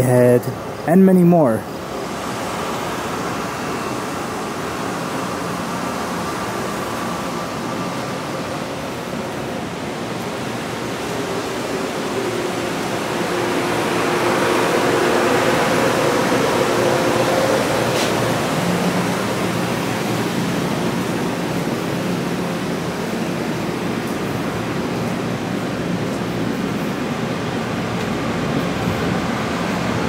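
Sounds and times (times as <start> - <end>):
electric train rushing noise: 0.0 - 0.9, 1.6 - 30.0
faint train hum: 0.0 - 30.0.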